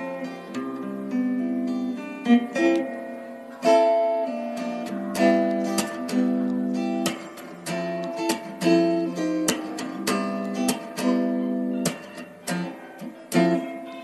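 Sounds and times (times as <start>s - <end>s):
strummed acoustic guitar: 0.0s - 14.0s.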